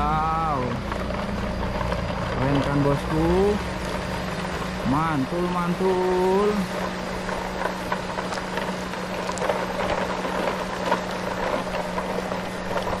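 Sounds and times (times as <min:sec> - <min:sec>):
low hum: 0:00.0 - 0:13.0
toy truck wheels crunching gravel: 0:00.0 - 0:13.0.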